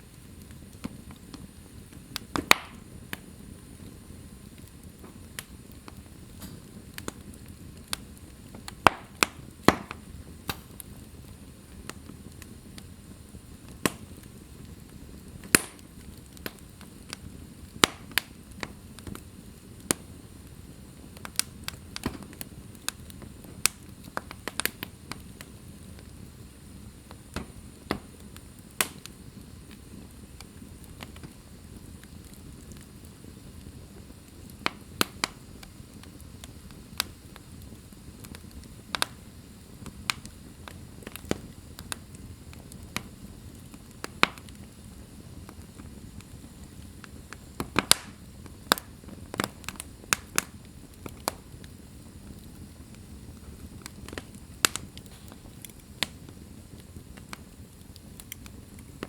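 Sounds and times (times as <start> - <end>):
low rumble of burning: 0.0 - 59.0
wood fire crackling and popping: 0.0 - 59.0.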